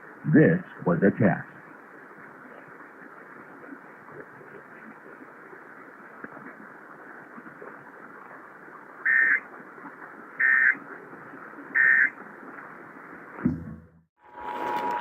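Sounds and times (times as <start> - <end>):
low radio hiss: 0.0 - 15.0.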